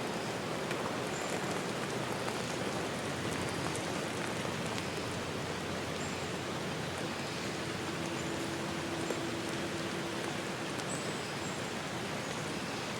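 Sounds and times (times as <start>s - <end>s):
rain falling in a forest: 0.0s - 12.9s.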